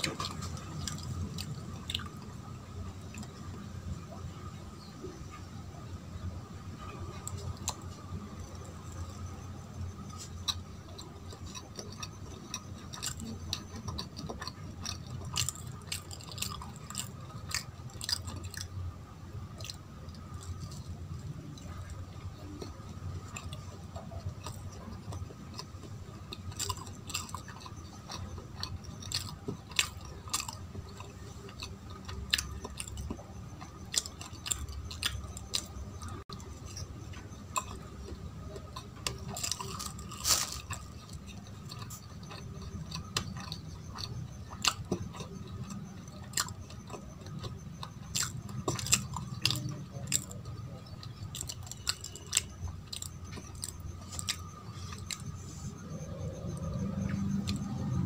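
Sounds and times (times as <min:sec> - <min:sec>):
chewing soft sticky sweet: 0:00.0 - 0:58.0.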